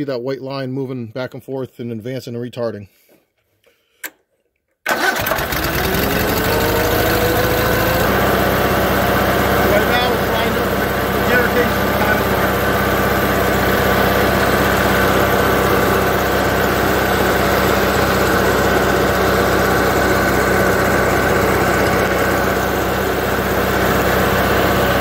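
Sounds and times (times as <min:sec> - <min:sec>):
air-cooled engine running: 0:04.9 - 0:25.0.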